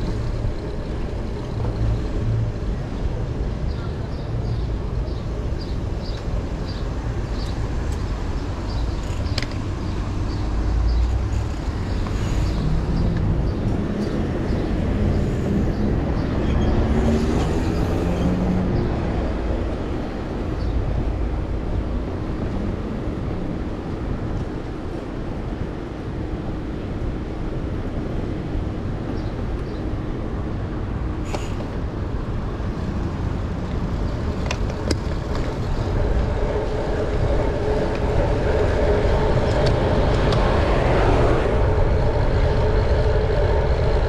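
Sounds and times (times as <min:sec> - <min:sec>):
city traffic rumble: 0:00.0 - 0:44.0.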